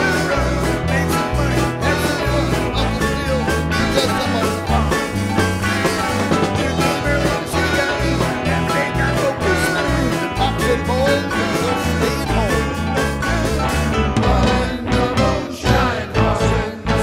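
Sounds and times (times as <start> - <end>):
drum kit: 0.0 - 17.0
electric bass line: 0.0 - 17.0
electric guitar: 0.0 - 17.0
keyboard: 0.0 - 17.0.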